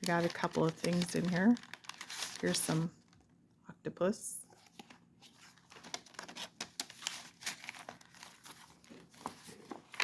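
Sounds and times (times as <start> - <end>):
paper rustling and crinkling: 0.0 - 3.2, 4.5 - 10.0.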